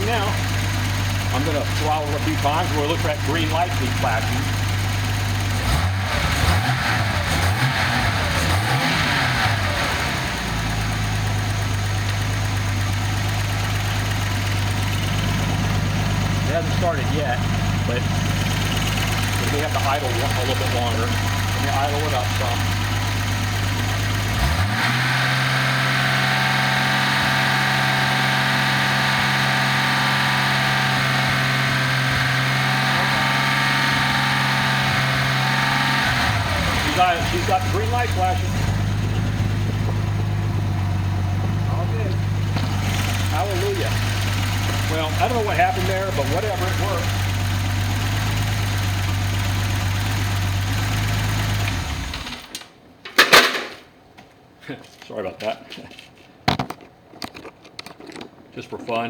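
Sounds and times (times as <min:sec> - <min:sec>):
car engine idling: 0:00.0 - 0:52.5.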